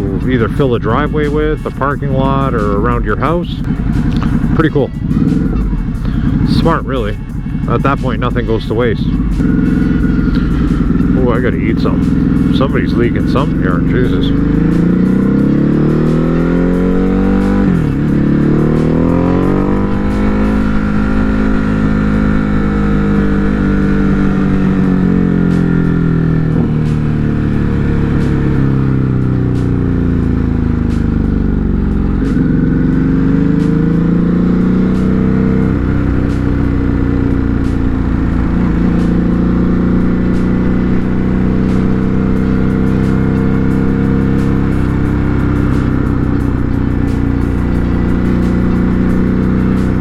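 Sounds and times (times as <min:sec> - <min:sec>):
motorcycle engine shifting gears: 0:00.0 - 0:50.0.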